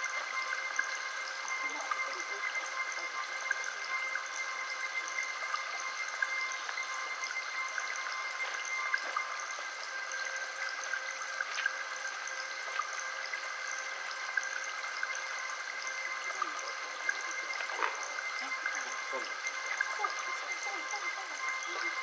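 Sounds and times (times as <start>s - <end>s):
faint steady tones: 0.0s - 22.0s
flowing water: 0.0s - 22.0s.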